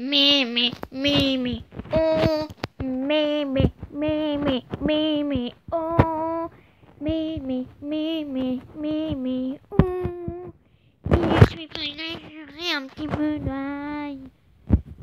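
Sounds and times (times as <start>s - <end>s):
girl singing: 0.0s - 14.4s.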